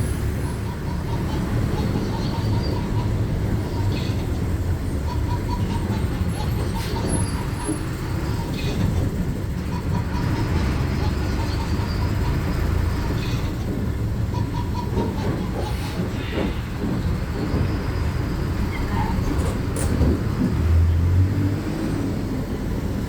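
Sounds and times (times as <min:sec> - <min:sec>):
bus body rattling: 0:00.0 - 0:23.0
bus engine and road rumble: 0:00.0 - 0:23.0.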